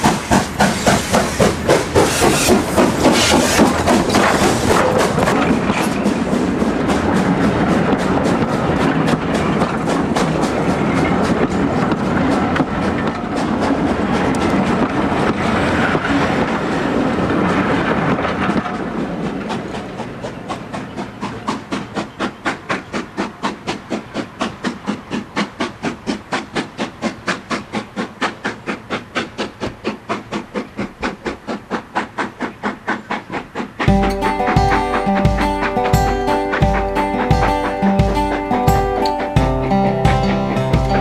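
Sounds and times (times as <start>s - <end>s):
train wheel and rail rush: 0.0s - 41.0s
wheels clickety-clack over rail joints: 0.0s - 41.0s.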